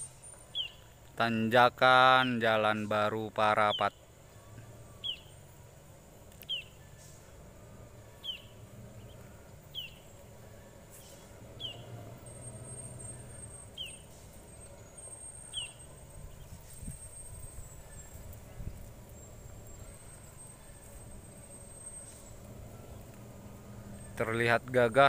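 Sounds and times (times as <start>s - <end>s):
distant diesel truck engine drone: 0.0s - 25.0s.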